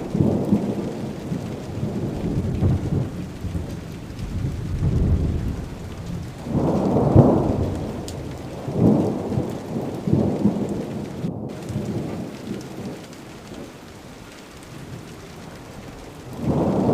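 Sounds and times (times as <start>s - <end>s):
heavy rain: 0.0s - 16.9s
thunder rumbling: 0.0s - 16.9s.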